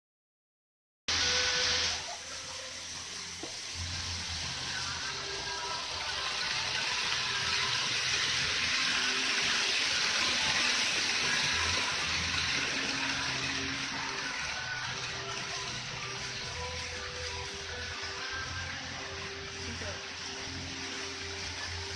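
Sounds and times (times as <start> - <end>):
model train wheels on rails: 1.1 - 21.9.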